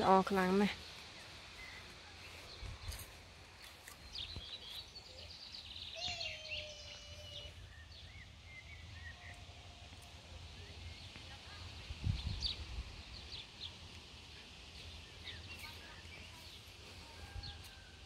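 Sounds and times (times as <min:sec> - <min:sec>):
birds calling and chirping: 0:00.0 - 0:18.0.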